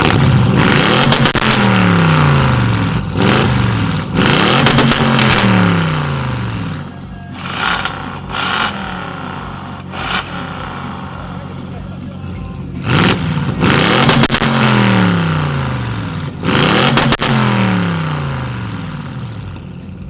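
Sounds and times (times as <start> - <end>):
exhaust crackles: 0.0 - 19.8
car engine revving: 0.0 - 19.9
loud engine idle: 0.0 - 20.0.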